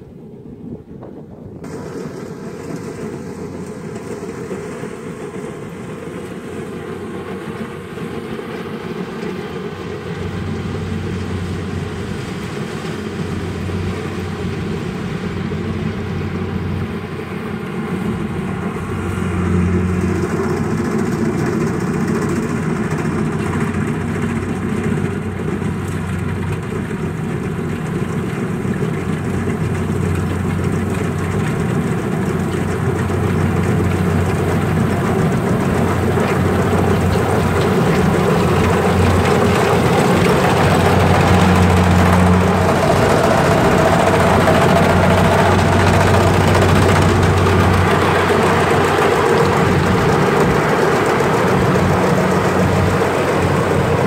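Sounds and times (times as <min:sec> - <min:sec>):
combine harvester running: 0:01.6 - 0:54.0.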